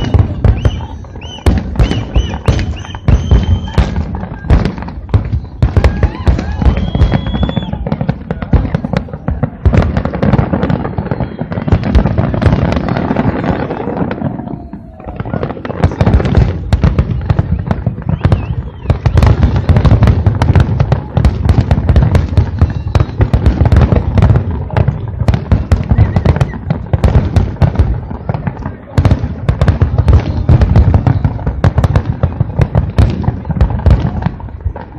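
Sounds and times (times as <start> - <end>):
firework bangs and crackles: 0.0 - 34.9.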